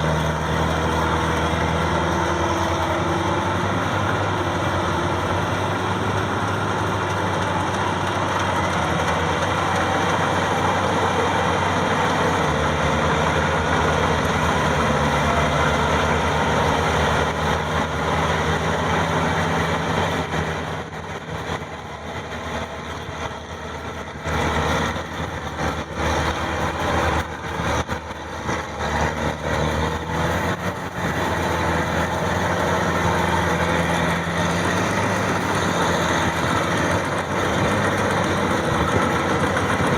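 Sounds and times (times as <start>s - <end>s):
combine harvester diesel engine running: 0.0s - 39.9s.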